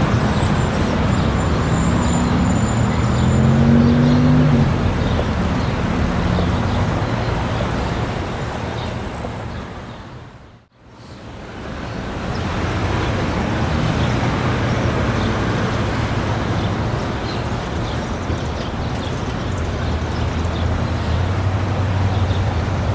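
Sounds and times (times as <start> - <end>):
engine hum: 0.0 - 9.8, 11.4 - 22.9
traffic road noise: 0.0 - 22.9.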